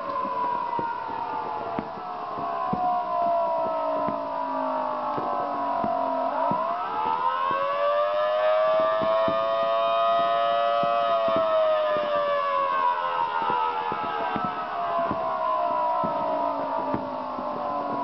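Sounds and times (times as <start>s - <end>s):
sharp cracks: 0.0s - 18.0s
wailing siren: 0.0s - 18.0s.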